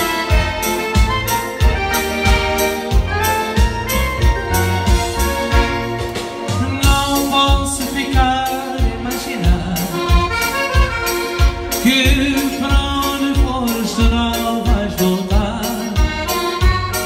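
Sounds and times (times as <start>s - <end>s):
accordion playing melody: 0.0s - 17.0s
steady drum beat: 0.0s - 17.0s.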